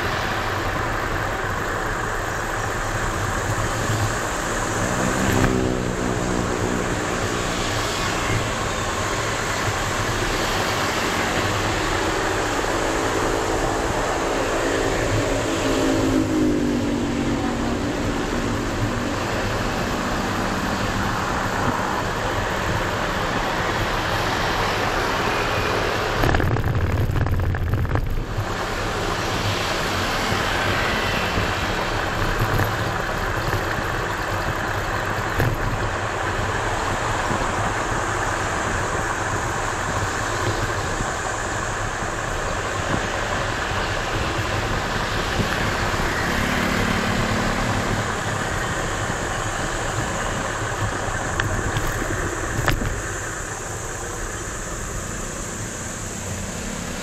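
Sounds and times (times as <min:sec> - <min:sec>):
scooter road rumble: 0:00.0 - 0:57.0
wind over microphone: 0:02.2 - 0:56.4.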